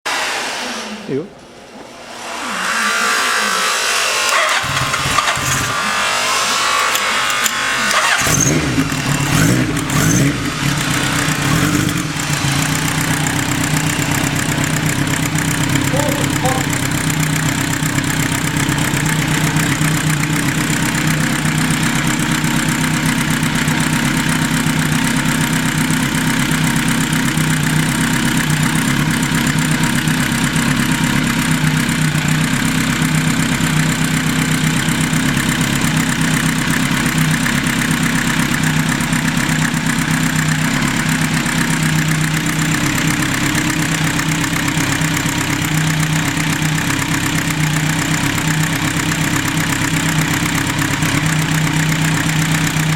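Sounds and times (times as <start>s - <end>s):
motorcycle engine idling: 4.4s - 5.7s, 7.6s - 52.9s.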